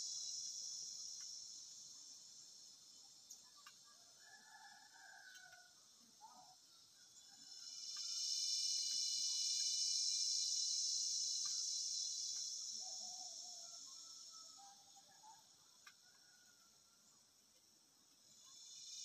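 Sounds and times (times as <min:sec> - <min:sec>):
high insect buzz: 0:00.0 - 0:06.4, 0:07.0 - 0:19.0.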